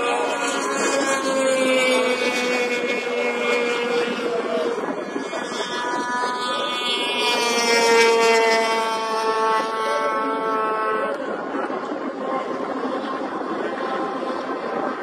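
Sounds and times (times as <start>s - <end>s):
snowmobile engines whining: 0.0s - 15.0s.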